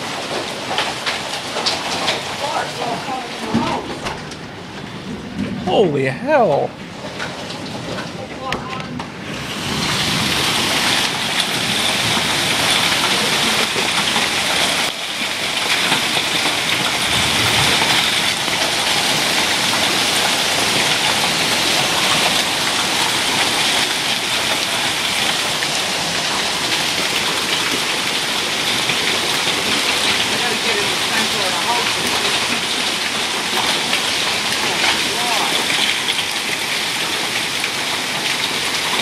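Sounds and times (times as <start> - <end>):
heavy rain on concrete: 0.0 - 39.0.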